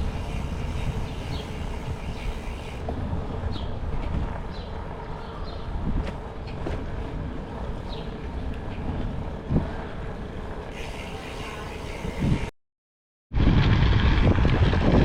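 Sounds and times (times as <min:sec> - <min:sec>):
wind buffeting microphone: 0:00.0 - 0:10.7, 0:13.4 - 0:15.0
bicycle rolling on trail: 0:00.0 - 0:12.5, 0:13.4 - 0:15.0.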